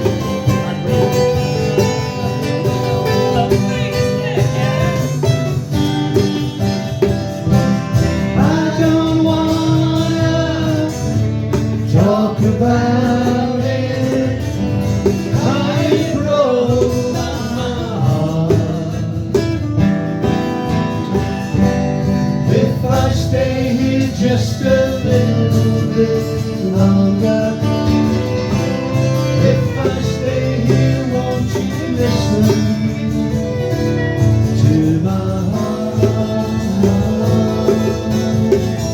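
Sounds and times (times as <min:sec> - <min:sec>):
bending lead guitar melody: 0:00.0 - 0:38.9
country band playing slow song: 0:00.0 - 0:38.9.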